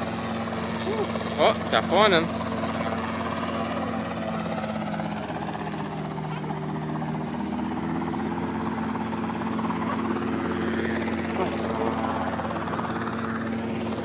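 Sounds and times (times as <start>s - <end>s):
aircraft engine droning: 0.0s - 14.0s.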